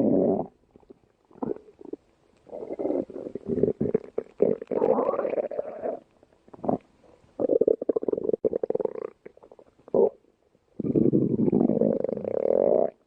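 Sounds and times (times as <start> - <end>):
stomach growling: 0.0 - 10.2, 10.8 - 13.0.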